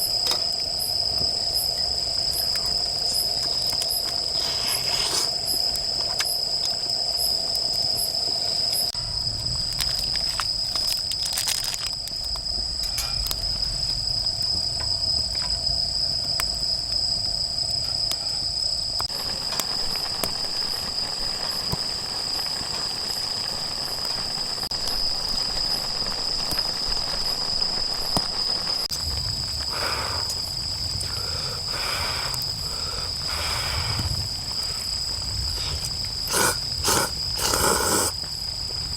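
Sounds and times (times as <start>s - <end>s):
crickets trilling: 0.0s - 38.9s
low insect tone: 0.0s - 38.9s
wood fire crackling: 0.0s - 38.9s.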